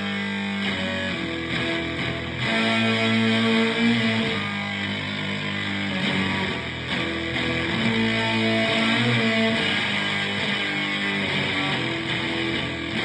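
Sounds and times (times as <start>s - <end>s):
distorted electric guitar drone: 0.0s - 13.0s.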